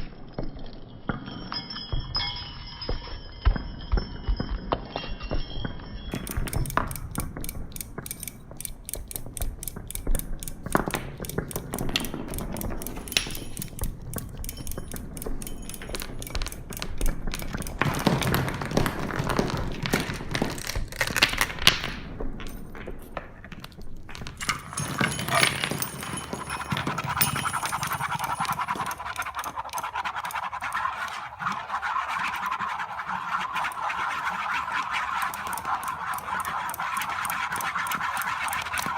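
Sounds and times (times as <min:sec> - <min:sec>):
percussive clicking and rattling: 0:06.1 - 0:38.9.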